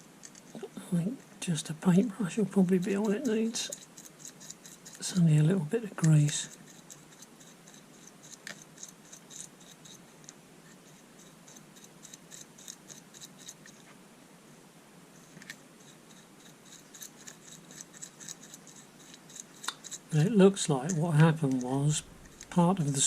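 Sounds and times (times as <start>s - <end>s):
paintbrush scratching plastic gears: 0.2s - 0.8s, 1.9s - 13.9s, 15.2s - 23.0s.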